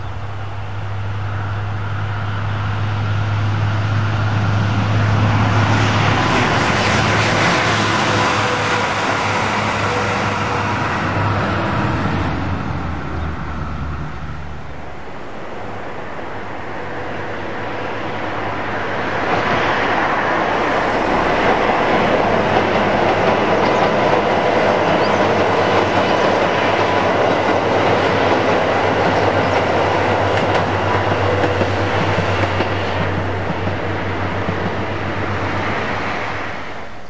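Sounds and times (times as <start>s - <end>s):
train wheels on steel bridge: 0.0s - 37.0s.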